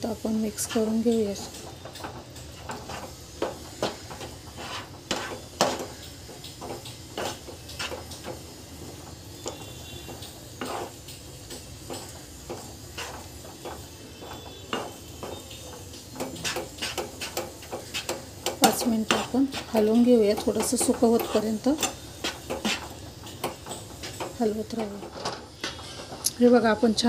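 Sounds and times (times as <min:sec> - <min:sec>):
spatula scraping a frying pan: 0:00.2 - 0:26.6.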